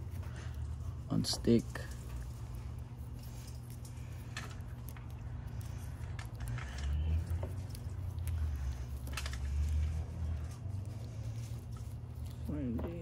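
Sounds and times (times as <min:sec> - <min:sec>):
electrical tape crackling: 0:00.0 - 0:13.0.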